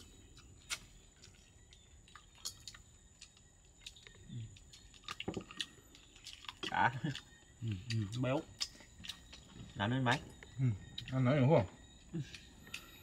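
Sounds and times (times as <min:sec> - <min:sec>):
people chewing and eating: 0:00.0 - 0:13.0.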